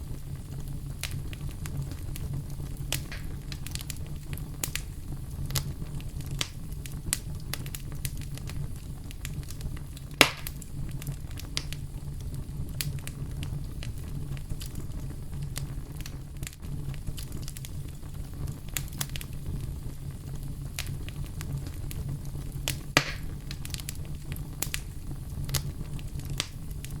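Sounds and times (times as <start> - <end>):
campfire crackling and popping: 0.0 - 27.0
steady low rumble: 0.0 - 27.0.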